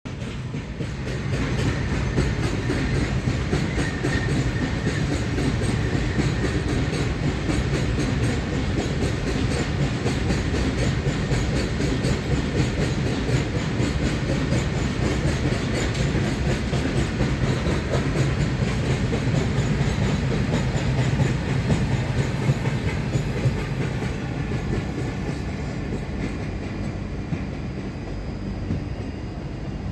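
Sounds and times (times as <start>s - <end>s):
train wagons rumbling: 0.1s - 29.9s.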